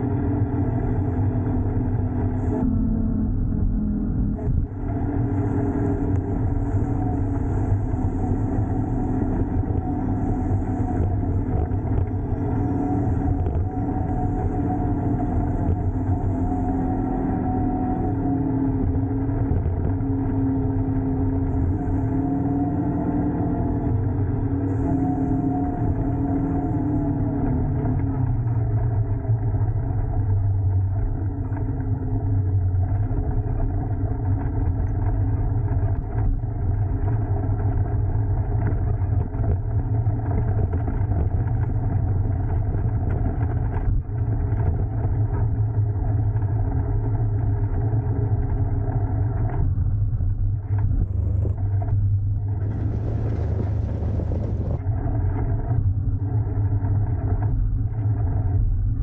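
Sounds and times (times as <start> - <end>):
road noise: 0.0 - 59.0
vehicle engine rumble: 0.0 - 59.0.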